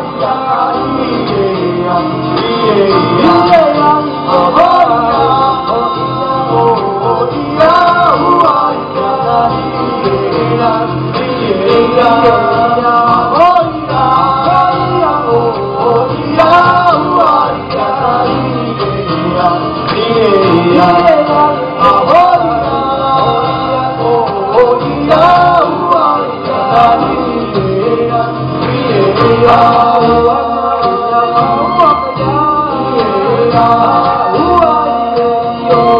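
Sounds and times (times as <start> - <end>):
acoustic guitar: 0.0 - 35.9
men singing together: 0.0 - 35.9
upright double bass: 0.0 - 35.9.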